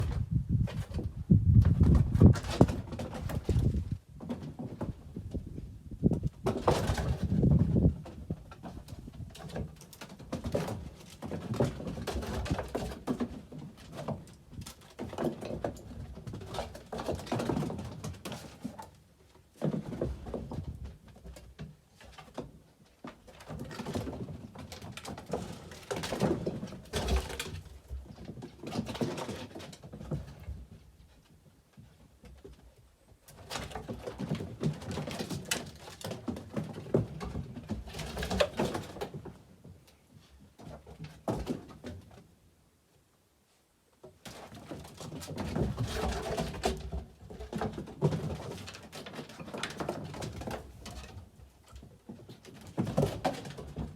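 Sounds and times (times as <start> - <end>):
paws scrabbling and thumping: 0.0 - 42.3, 44.2 - 53.9.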